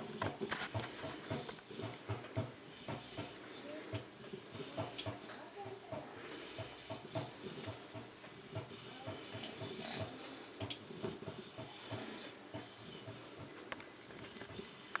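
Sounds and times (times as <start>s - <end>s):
puppy breathing noisily: 0.0s - 15.0s.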